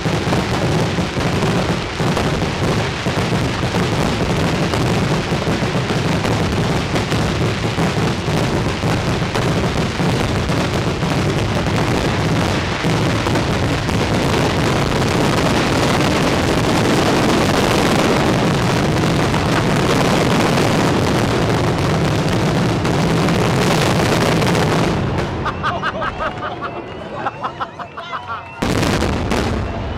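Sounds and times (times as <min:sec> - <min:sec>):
fireworks bursting and crackling: 0:00.0 - 0:29.9.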